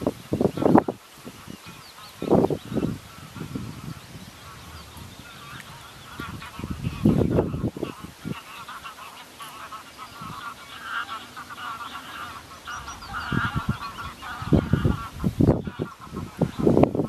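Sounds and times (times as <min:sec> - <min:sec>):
wind buffeting microphone: 0:00.0 - 0:08.8, 0:10.0 - 0:10.7, 0:11.6 - 0:17.0
geese honking: 0:00.4 - 0:17.0.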